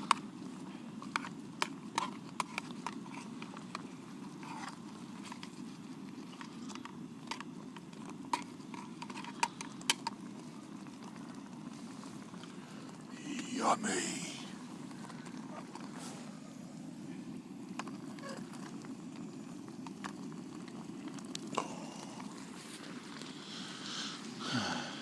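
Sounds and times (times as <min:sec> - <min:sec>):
low rushing of cooking heat: 0:00.0 - 0:25.0.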